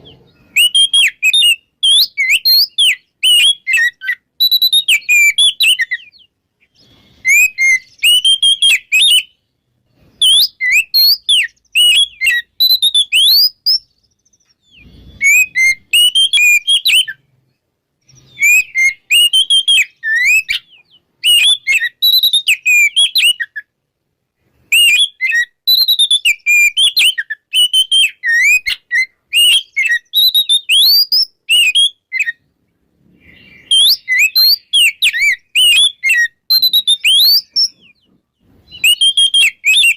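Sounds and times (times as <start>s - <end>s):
magpie-robin singing: 0.0s - 23.8s, 24.6s - 32.6s, 33.2s - 39.9s.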